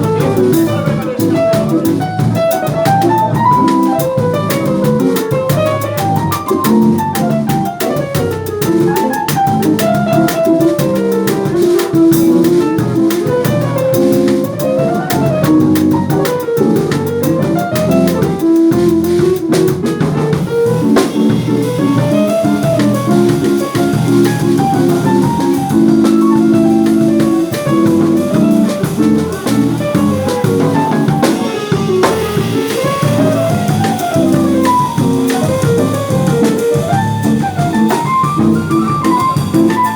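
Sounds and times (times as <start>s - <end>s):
band with drums and guitar: 0.0s - 39.9s.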